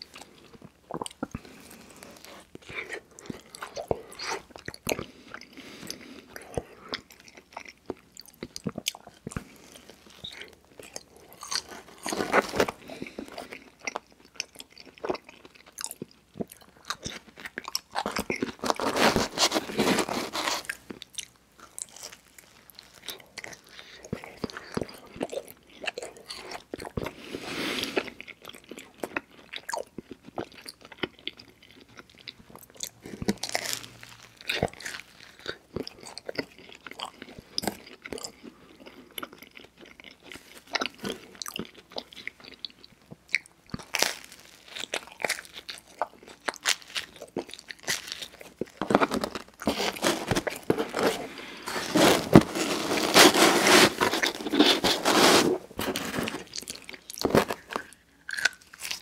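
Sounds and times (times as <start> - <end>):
man chewing pizza: 0.0 - 59.0.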